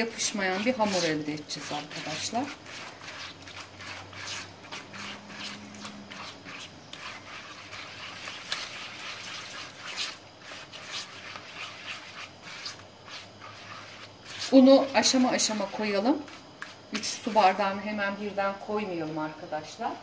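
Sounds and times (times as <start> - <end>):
hand squelching batter in bowl: 0.0 - 17.7.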